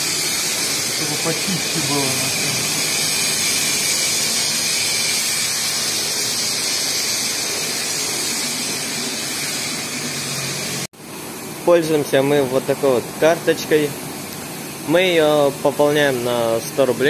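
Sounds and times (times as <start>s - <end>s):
car wash equipment hissing: 0.0s - 17.0s.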